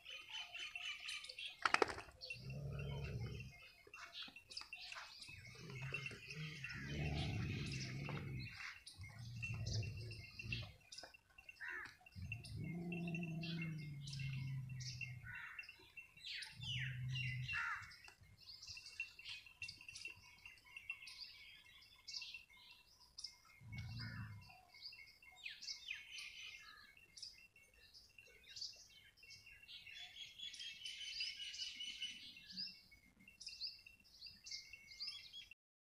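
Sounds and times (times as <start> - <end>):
small birds chirping: 0.0 - 35.6.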